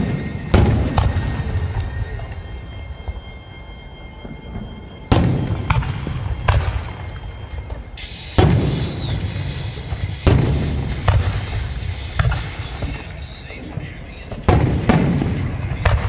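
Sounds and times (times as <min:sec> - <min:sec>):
fireworks bursting with rumble: 0:00.0 - 0:03.4, 0:04.0 - 0:16.0.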